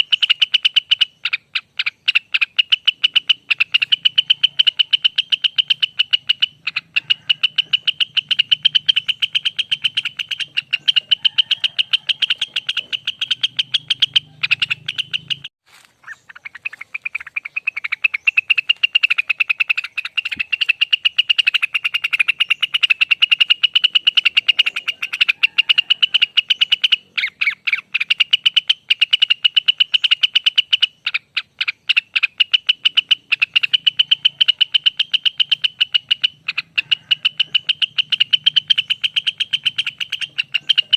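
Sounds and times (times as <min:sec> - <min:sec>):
bird singing rapid trill: 0:00.0 - 0:40.9.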